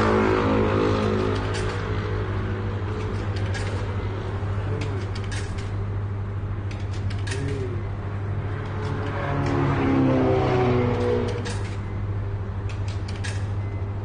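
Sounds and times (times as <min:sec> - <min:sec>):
laundry machines humming: 0:00.0 - 0:14.0.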